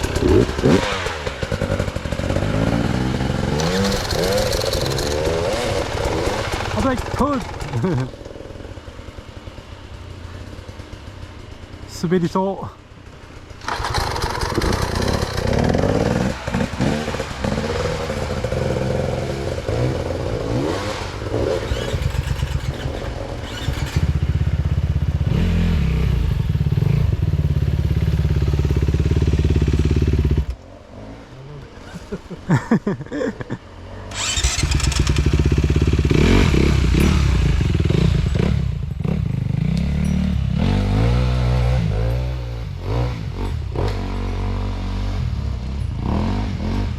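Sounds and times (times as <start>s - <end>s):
dirt bike engine revving: 0.0s - 9.1s, 13.6s - 46.9s.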